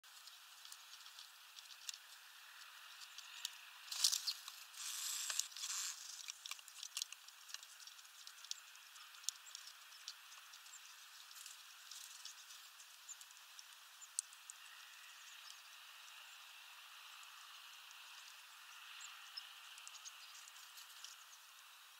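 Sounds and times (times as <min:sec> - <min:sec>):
bird bills clicking on seeds: 0:00.2 - 0:16.2, 0:17.3 - 0:21.5.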